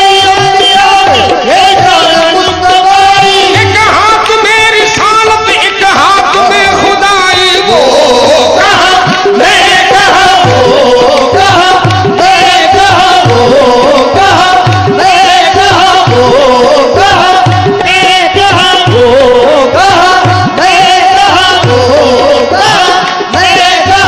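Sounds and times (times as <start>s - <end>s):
harmonium melody: 0.0s - 24.0s
person singing: 0.0s - 24.0s
tabla rhythm: 0.0s - 24.0s.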